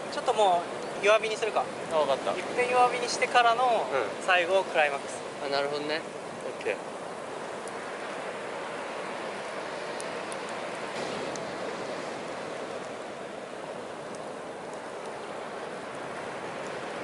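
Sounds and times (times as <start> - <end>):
fire crackling: 0.0 - 17.0
sea surf on shore: 0.0 - 17.0.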